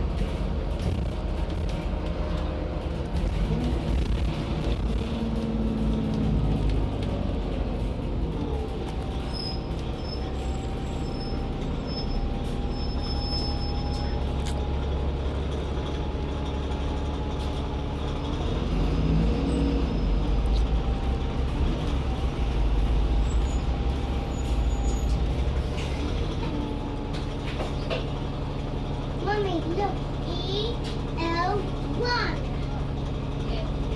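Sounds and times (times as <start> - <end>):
bus engine and road rumble: 0.0 - 33.9.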